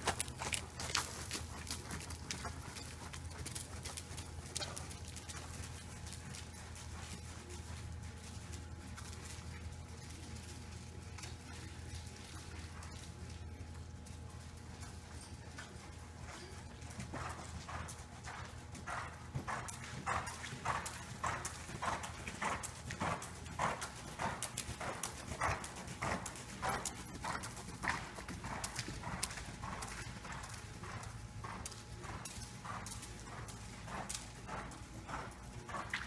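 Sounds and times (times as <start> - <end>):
horse hooves trotting on soft ground: 0.0 - 36.0.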